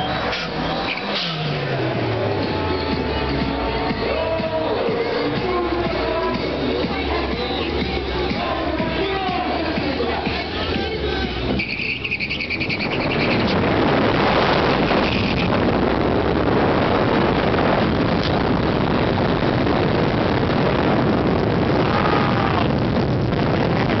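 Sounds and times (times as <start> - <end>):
car engines racing: 0.0 - 24.0
wind noise on microphone: 0.0 - 24.0.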